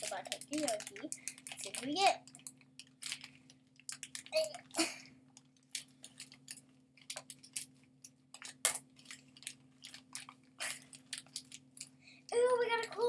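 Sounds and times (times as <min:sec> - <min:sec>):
faint low hum: 0:00.0 - 0:13.0
toy packaging crinkling: 0:00.0 - 0:13.0.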